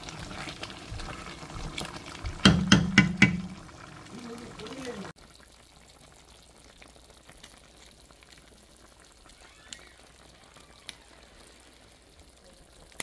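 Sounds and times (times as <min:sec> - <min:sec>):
stew simmering hiss: 0:00.0 - 0:13.0.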